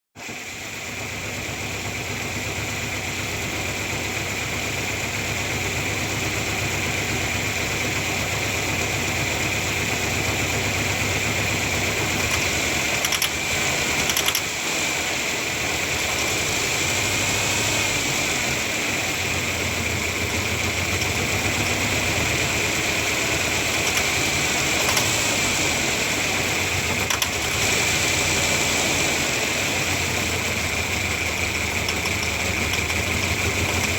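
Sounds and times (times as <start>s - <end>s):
car engine idling roughly: 0.2s - 33.9s.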